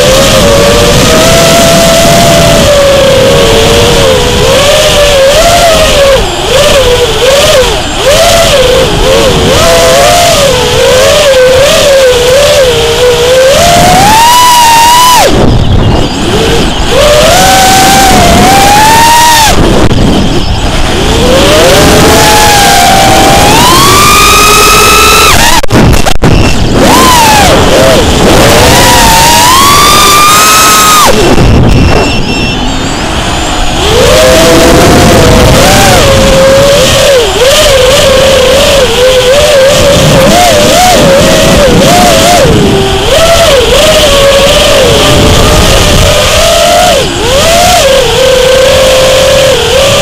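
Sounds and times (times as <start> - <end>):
drone motors whining: 0.0 - 50.0.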